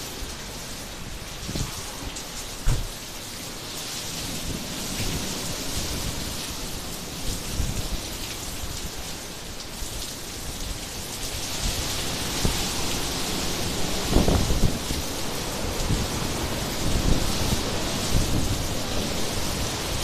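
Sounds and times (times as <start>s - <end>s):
gusting wind and rain: 0.0s - 20.0s.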